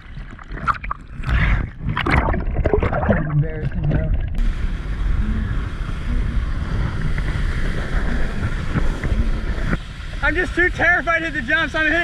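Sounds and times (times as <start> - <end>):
water rushing under wakeboard: 0.0 - 12.0.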